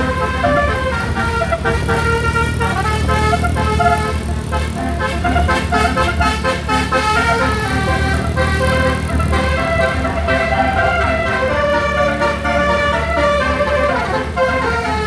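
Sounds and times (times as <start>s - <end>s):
bus horn playing a tune: 0.0s - 15.0s
low engine rumble: 0.0s - 15.0s.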